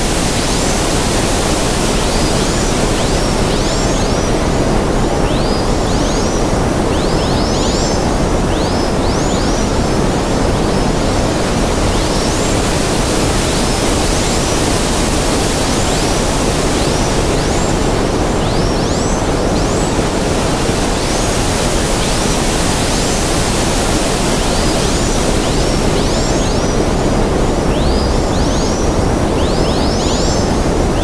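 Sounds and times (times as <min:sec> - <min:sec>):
loud static rushing noise: 0:00.0 - 0:31.0.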